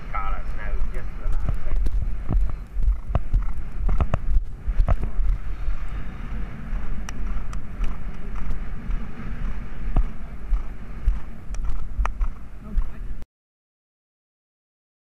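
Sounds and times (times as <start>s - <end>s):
wind on microphone: 0.0s - 13.2s.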